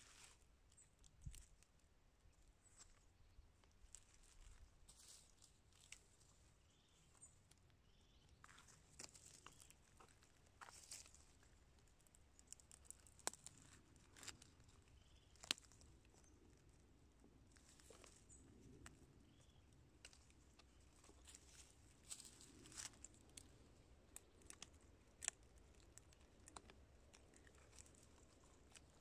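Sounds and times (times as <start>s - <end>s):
rustling of dry leaf litter: 0.0s - 1.6s, 3.8s - 7.3s, 8.4s - 16.8s, 17.4s - 29.0s.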